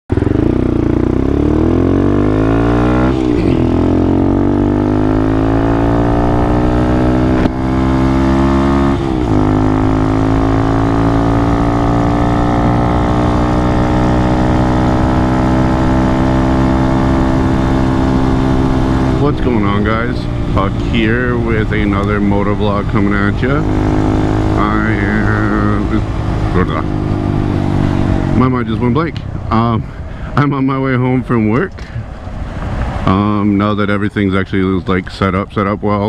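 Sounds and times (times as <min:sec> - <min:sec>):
motorcycle engine accelerating: 0:00.0 - 0:31.7.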